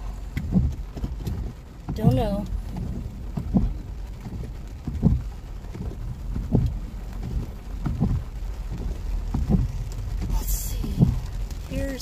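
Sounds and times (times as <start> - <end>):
car low rumble: 0.0 - 12.0
rain on car: 0.0 - 12.0
windshield wipers thumping: 0.0 - 12.0.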